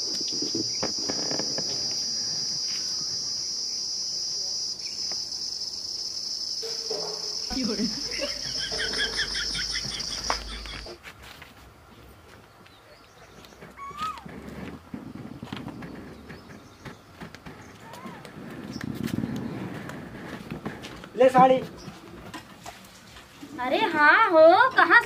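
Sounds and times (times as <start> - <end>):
insects droning: 0.0 - 11.0, 11.7 - 25.0.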